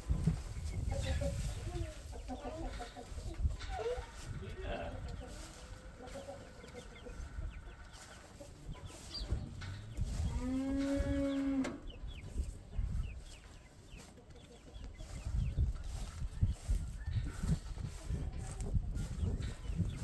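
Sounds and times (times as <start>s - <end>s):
chickens clucking: 0.0s - 20.0s
drawn-out farm animal call: 0.0s - 20.0s.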